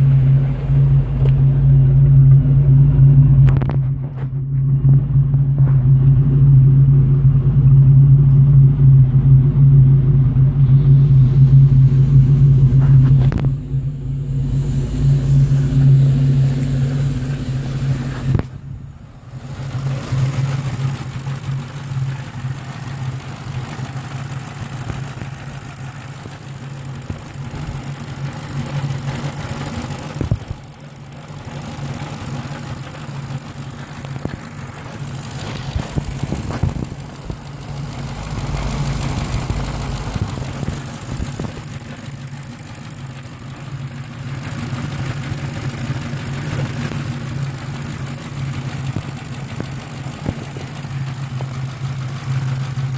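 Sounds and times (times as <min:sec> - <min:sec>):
car engine idling: 0:00.0 - 0:52.9
loud exhaust drone: 0:00.0 - 0:52.9.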